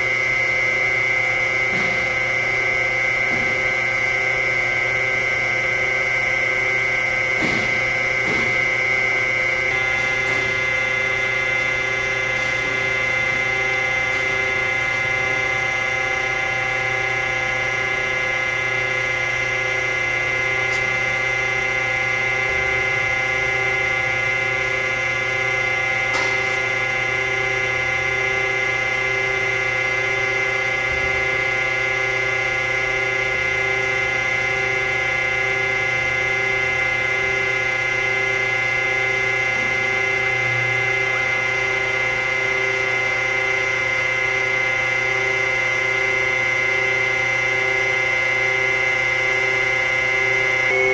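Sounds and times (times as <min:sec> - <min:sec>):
surface grinder whine and hum: 0:00.0 - 0:50.9.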